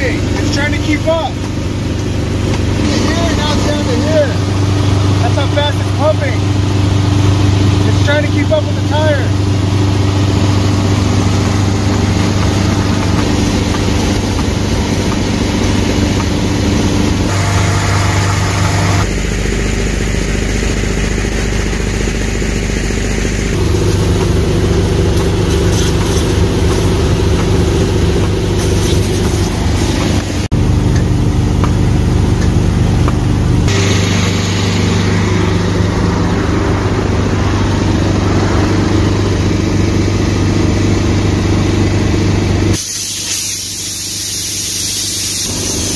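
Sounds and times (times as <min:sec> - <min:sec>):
pump motor humming: 0:00.0 - 0:42.9.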